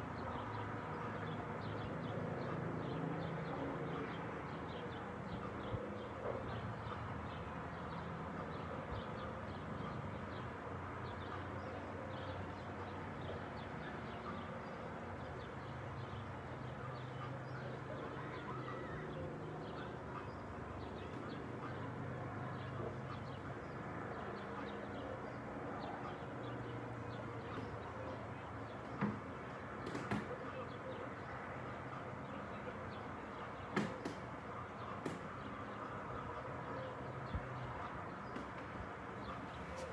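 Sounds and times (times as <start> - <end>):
distant traffic hum: 0.0 - 39.9.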